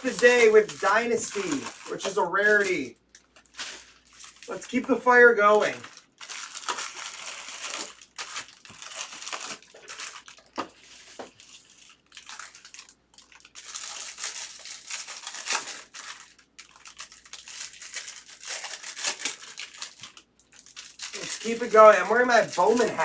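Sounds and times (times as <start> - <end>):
wrappers crinkling and tearing: 0.0 - 23.0.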